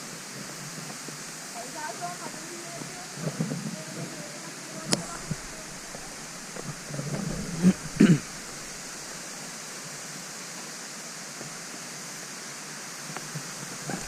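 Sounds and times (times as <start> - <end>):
rushing falling water: 0.0 - 14.0.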